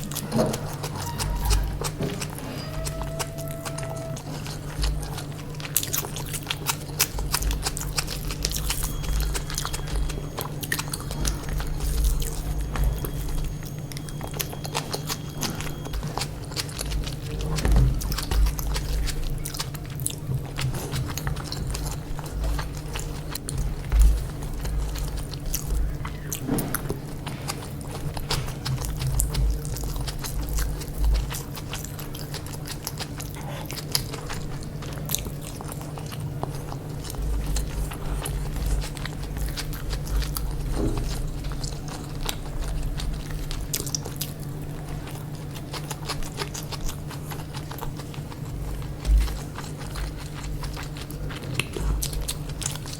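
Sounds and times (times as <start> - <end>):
food crunching: 0.0 - 52.9
person chewing food: 0.0 - 52.9.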